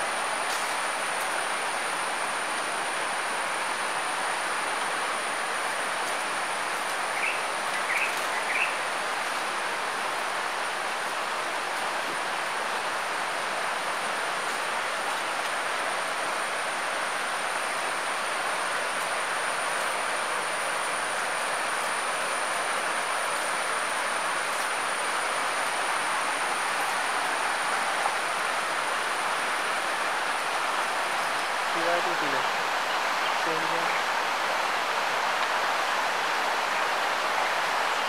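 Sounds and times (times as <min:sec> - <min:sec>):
forest stream rushing: 0:00.0 - 0:38.0
insect high-pitched whine: 0:00.0 - 0:38.0.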